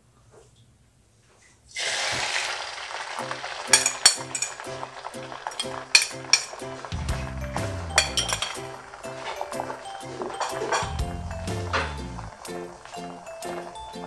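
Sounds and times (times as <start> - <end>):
egg sizzling in hot oil: 1.7 - 14.0.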